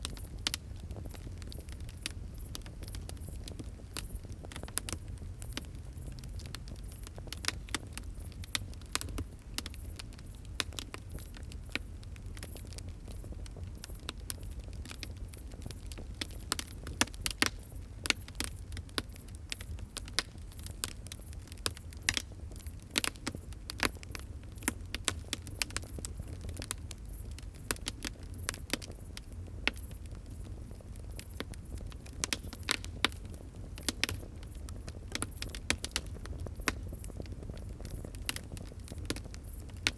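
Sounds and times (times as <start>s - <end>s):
fire burning rumble: 0.0s - 39.9s
wood fire crackling and popping: 0.0s - 39.9s.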